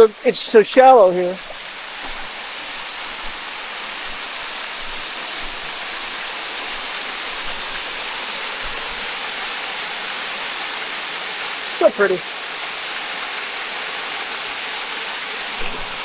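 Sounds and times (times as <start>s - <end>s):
water pouring over waterfall: 0.0s - 16.0s.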